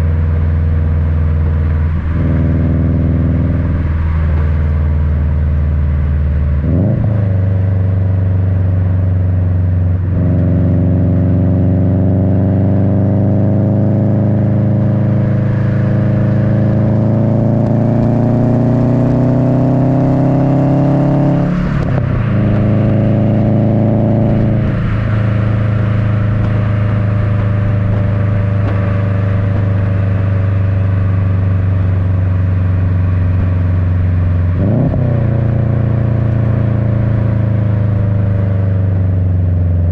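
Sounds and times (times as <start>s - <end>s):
car engine rumble with gear changes: 0.0s - 39.9s.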